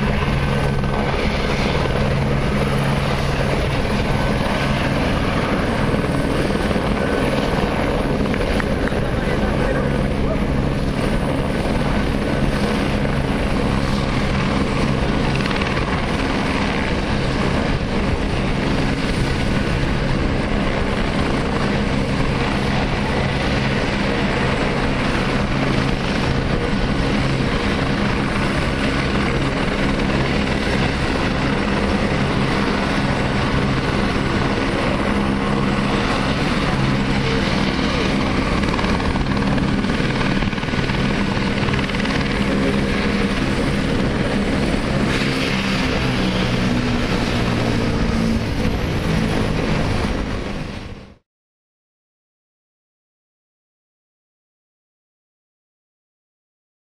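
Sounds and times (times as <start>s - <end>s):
helicopter engine whine and rotor: 0.0s - 51.2s.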